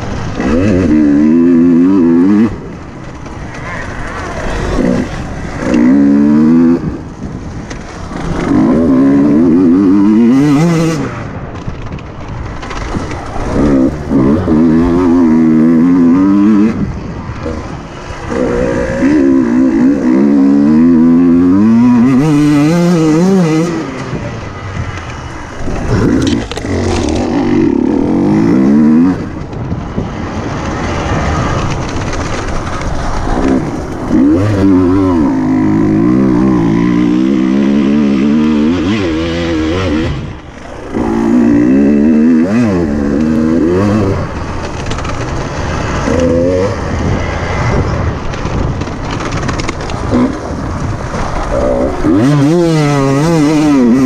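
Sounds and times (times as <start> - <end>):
two-stroke motorcycle accelerating: 0.0 - 54.0.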